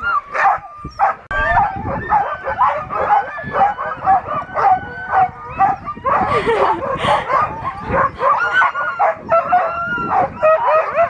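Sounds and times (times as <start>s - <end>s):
sled dogs barking and yipping: 0.0s - 11.0s.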